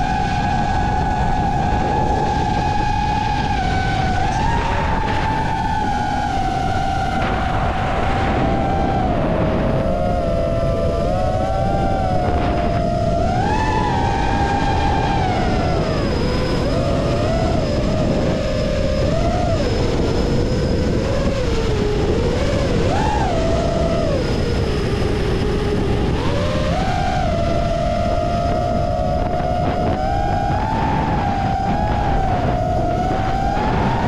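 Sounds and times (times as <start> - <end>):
drone motors whining: 0.0 - 34.0
wind noise on microphone: 0.0 - 34.0.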